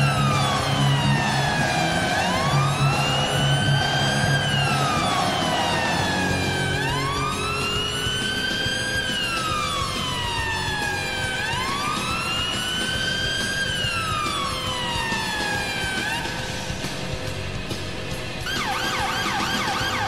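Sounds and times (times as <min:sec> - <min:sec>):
goal siren wailing: 0:00.0 - 0:16.8, 0:18.4 - 0:20.0.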